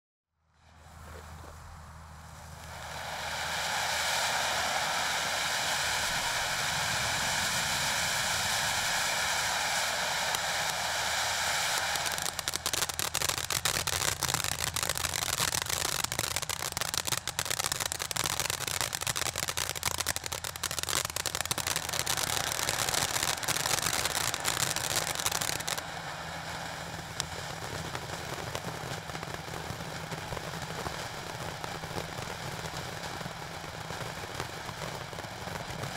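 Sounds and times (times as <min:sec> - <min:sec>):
firework fountain hissing and crackling: 0:00.4 - 0:35.9.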